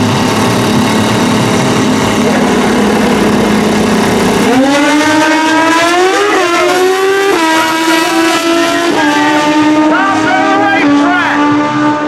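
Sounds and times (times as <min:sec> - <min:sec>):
motorcycle engines accelerating: 0:00.0 - 0:12.0.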